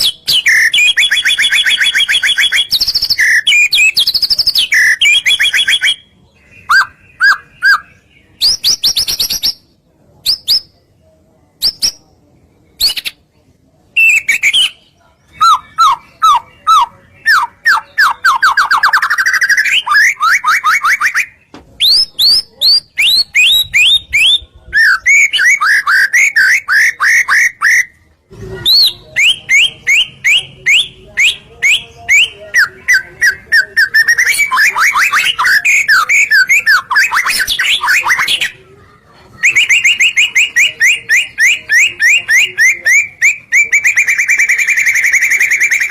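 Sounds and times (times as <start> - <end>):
bird singing whistled trills: 0.0 - 9.7, 14.0 - 27.9, 28.6 - 38.4, 39.4 - 45.9.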